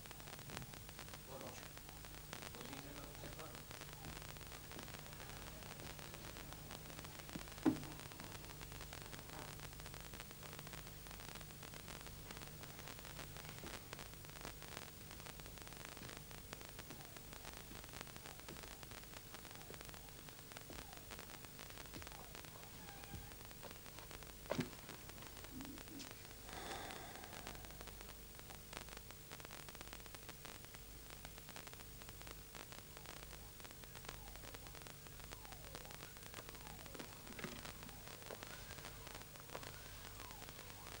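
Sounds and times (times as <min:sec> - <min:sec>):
faint crackles: 0:00.0 - 0:41.0
hiss and hum: 0:00.0 - 0:41.0.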